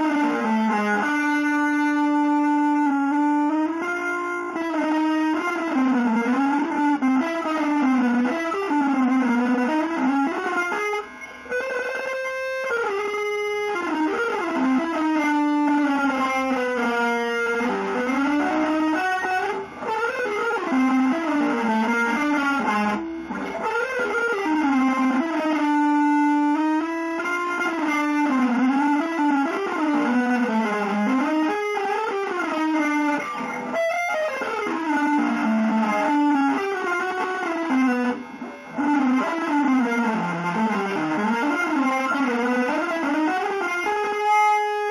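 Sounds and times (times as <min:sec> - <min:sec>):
electric guitar sliding melody: 0:00.0 - 0:44.9.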